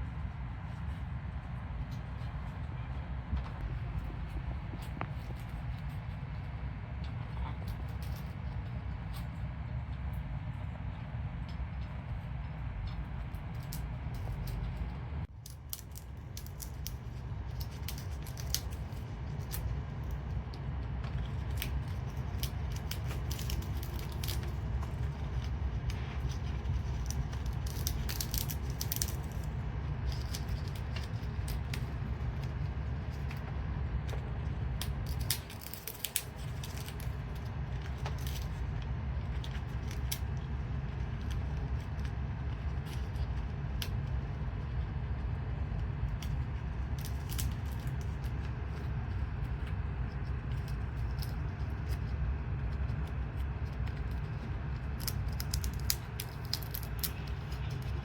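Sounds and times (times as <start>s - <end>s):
low rumble: 0.0s - 58.0s
parrot crunching wood: 11.3s - 58.0s.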